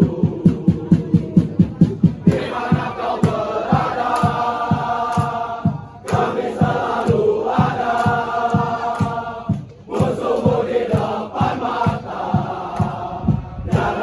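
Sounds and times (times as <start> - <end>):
crowd chanting a song: 0.0 - 14.0
steady drum beat: 0.0 - 14.0.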